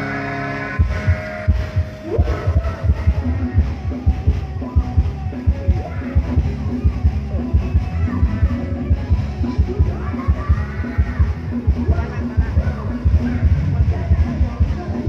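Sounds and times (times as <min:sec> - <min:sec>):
live band music: 0:00.0 - 0:15.0
fast heavy kick drum beat: 0:00.8 - 0:15.0.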